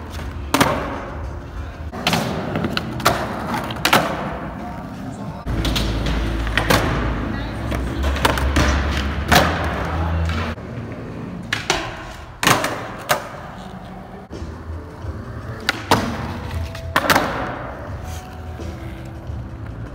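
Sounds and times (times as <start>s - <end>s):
skateboard wheels rolling on concrete: 0.0s - 19.9s.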